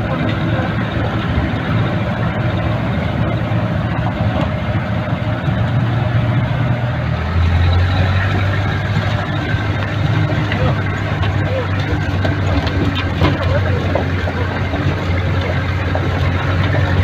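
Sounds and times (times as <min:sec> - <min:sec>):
car engine drone: 0:00.0 - 0:17.0
road and cab noise: 0:00.0 - 0:17.0.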